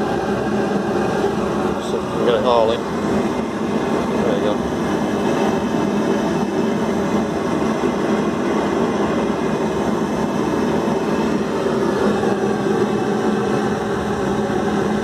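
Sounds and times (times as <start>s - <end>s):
forge burner flame rushing: 0.0s - 15.0s.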